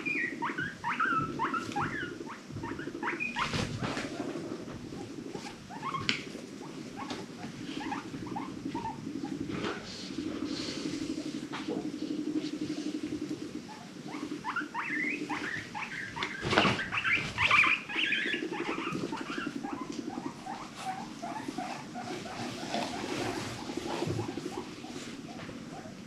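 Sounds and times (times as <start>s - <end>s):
guinea pig purring: 0.0s - 26.0s
guinea pig squeaks: 0.0s - 26.0s.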